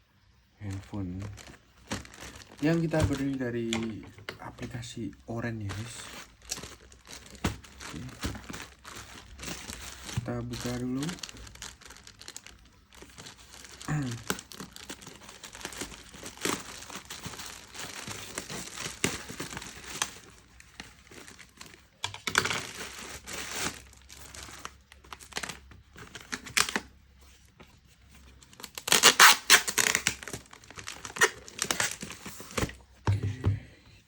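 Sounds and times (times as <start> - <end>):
packaging crinkling and tearing: 0.6 - 32.9.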